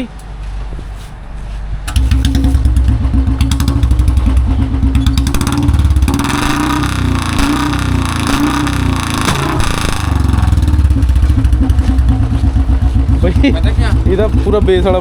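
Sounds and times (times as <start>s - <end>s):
exhaust pops: 1.9s - 15.0s
motorcycle engine revving: 1.9s - 15.0s.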